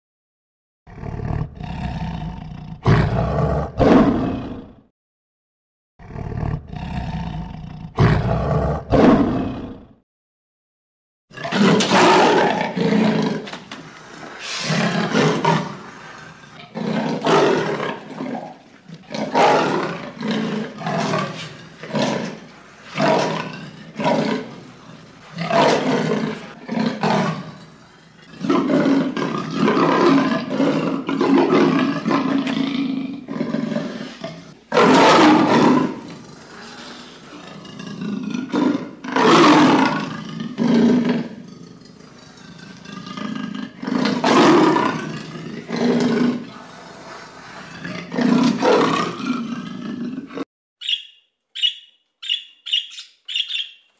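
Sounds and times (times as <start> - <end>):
big cat roaring: 0.9 - 4.9, 6.0 - 10.0, 11.3 - 50.5.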